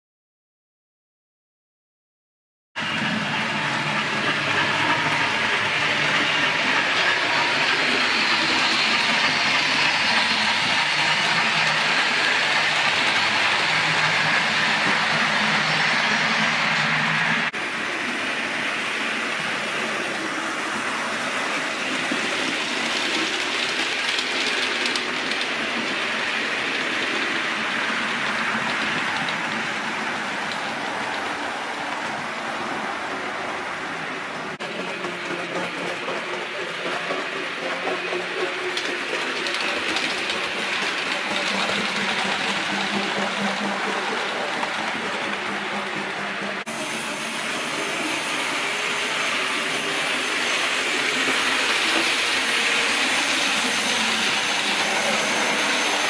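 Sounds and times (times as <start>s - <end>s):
train wheels clattering on track: 2.8s - 18.2s, 18.9s - 33.2s, 34.4s - 56.0s.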